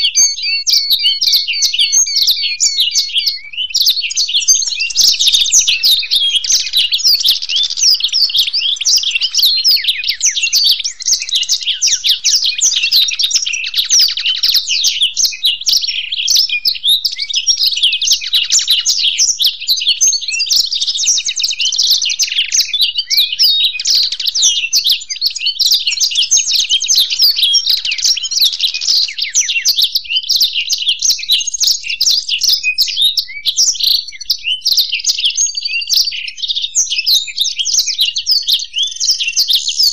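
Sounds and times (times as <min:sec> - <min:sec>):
songbirds twittering and trilling: 0:00.0 - 0:39.9.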